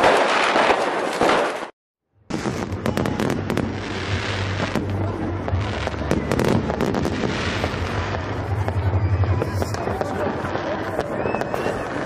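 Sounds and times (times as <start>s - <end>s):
firework bangs: 0.0s - 12.0s
fireworks crackling and popping: 0.0s - 12.0s.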